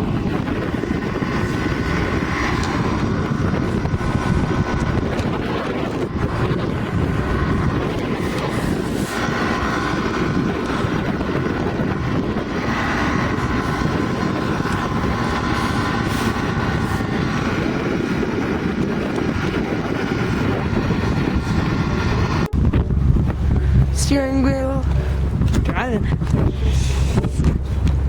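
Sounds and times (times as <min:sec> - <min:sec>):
boat motor running: 0:00.0 - 0:28.0
wind noise on microphone: 0:00.0 - 0:28.0.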